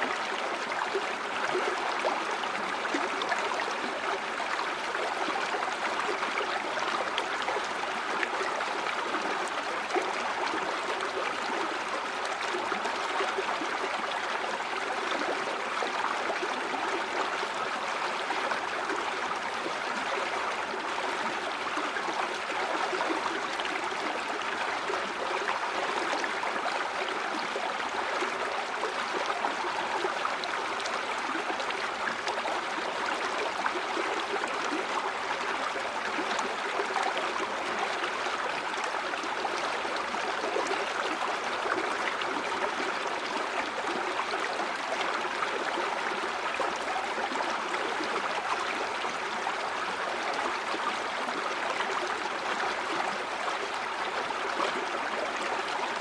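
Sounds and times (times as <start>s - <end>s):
stream gurgling over rocks: 0.0s - 56.0s.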